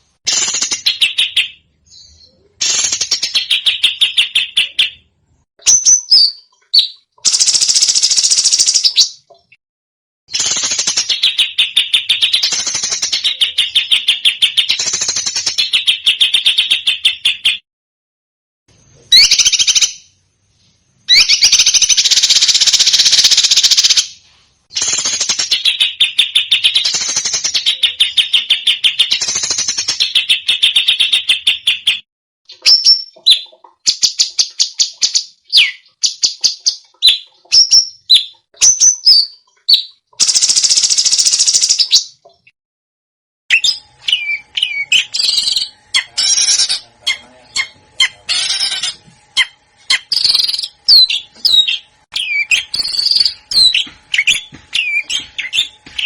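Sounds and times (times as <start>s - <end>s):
songbird song in rapid bursts: 0.0s - 9.6s, 10.3s - 17.6s, 18.7s - 20.2s, 21.0s - 42.5s, 43.5s - 56.0s.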